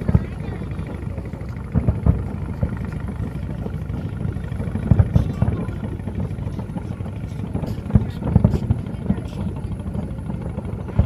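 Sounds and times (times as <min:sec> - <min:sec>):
distant fireworks booms: 0:00.0 - 0:11.0
low rumble: 0:00.0 - 0:11.0.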